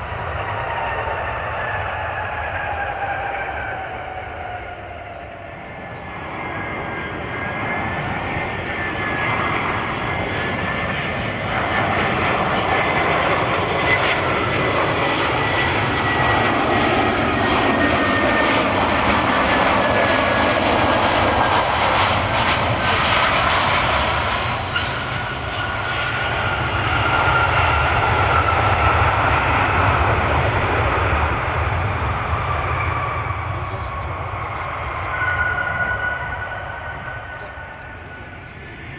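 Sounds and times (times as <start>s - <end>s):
jet airliner engines passing: 0.0s - 38.9s.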